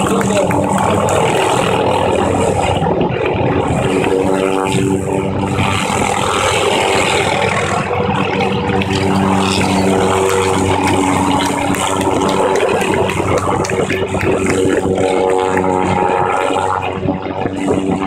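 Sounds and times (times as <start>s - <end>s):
helicopter flying low: 0.0s - 18.0s.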